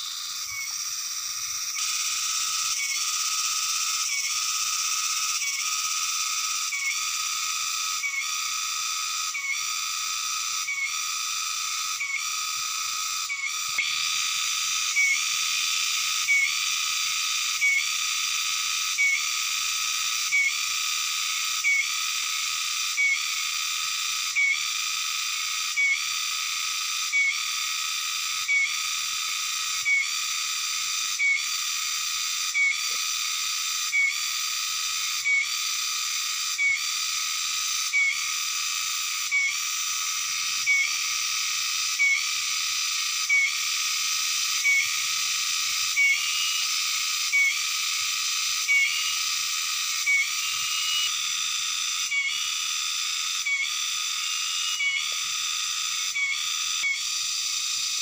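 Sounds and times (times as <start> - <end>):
insects shrilling: 0.0 - 58.0
sharp insect chirp: 0.0 - 58.0.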